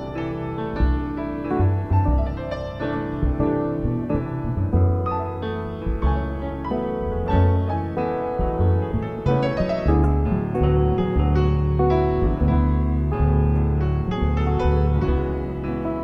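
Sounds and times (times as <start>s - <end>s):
guitar: 0.0s - 16.0s
low bass notes: 0.0s - 16.0s
piano: 0.0s - 16.0s.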